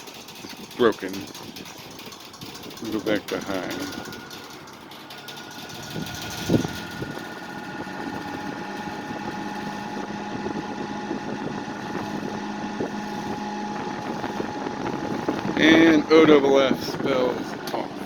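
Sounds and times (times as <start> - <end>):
fan grille rattling: 0.0 - 18.0
fan motor hum: 0.0 - 18.0.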